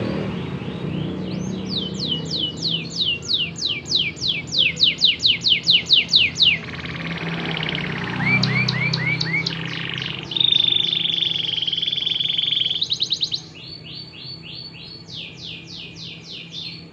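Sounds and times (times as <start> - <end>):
canary singing: 0.0 - 16.9.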